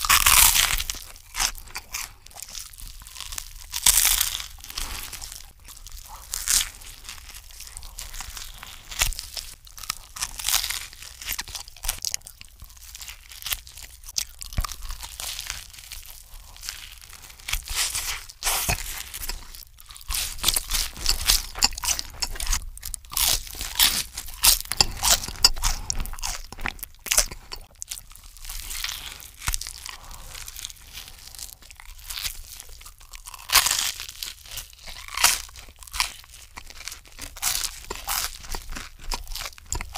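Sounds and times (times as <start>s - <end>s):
crunching and chewing sandwich: 0.0s - 39.9s.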